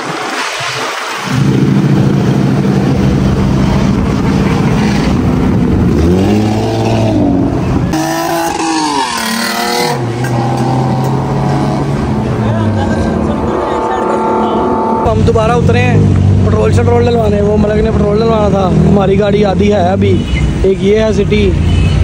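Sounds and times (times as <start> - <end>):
car engine running and revving: 1.3 - 20.2.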